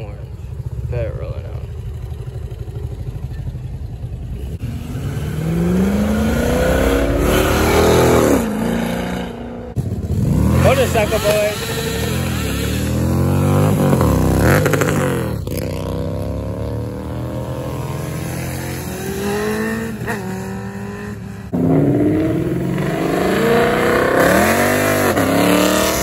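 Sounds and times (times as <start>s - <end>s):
motorcycle passing and accelerating: 0.0s - 26.0s
car engine revving: 4.4s - 26.0s.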